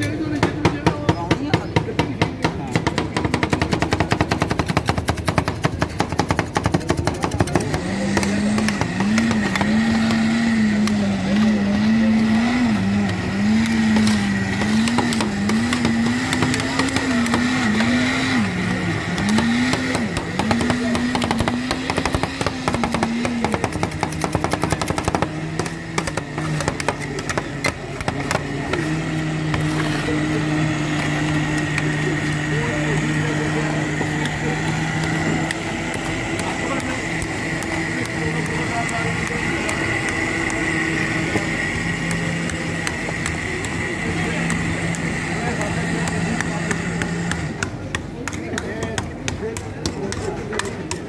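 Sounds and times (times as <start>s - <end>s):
metal spatulas chopping on steel: 0.1s - 11.5s, 13.1s - 51.0s
motor hum: 6.6s - 51.0s.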